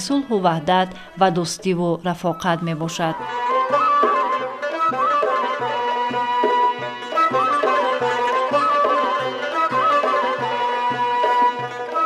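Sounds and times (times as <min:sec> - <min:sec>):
ornamented folk melody: 0:00.0 - 0:12.0.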